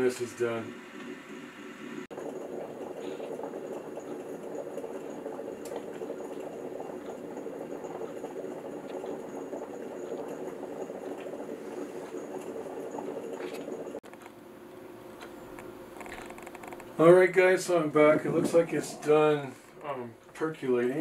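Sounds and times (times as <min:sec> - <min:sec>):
percolator bubbling: 0:00.0 - 0:21.0.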